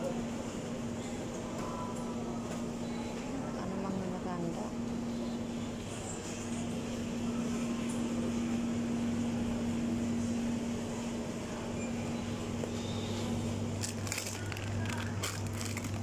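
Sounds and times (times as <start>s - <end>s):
freezers humming: 0.0s - 16.0s.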